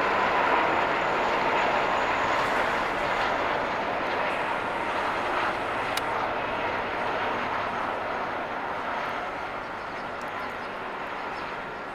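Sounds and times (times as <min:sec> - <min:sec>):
helicopter engine and rotor: 0:00.0 - 0:11.9.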